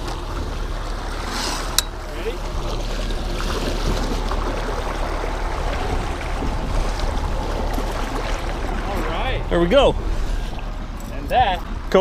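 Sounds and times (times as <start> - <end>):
low steady rumble: 0.0 - 12.0
water rushing and splashing: 0.0 - 12.0.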